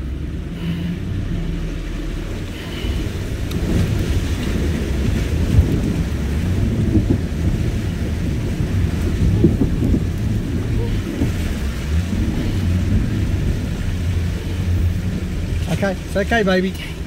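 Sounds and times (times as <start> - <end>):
engine rumbling: 0.0 - 17.0
water surging around vehicle: 0.0 - 17.0.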